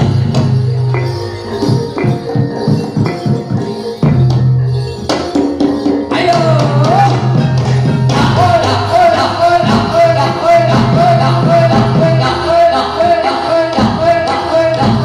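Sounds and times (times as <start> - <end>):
jingling rattling percussion: 0.0 - 12.9
sustained ringing tones: 0.0 - 13.6.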